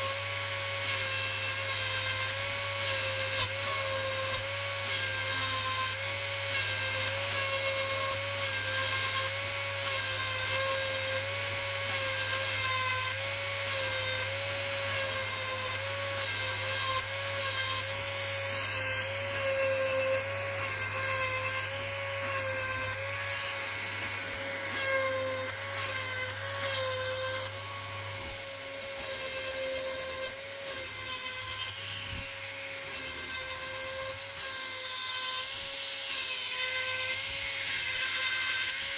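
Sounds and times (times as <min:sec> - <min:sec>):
rotary tool grinding whine: 0:00.0 - 0:38.9.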